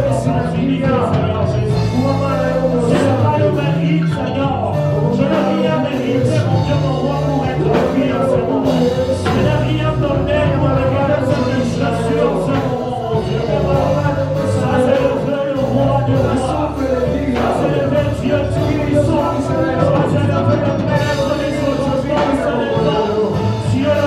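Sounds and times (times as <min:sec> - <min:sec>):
bass line: 0:00.0 - 0:24.0
church band playing worship music: 0:00.0 - 0:24.0
singing: 0:00.0 - 0:24.0.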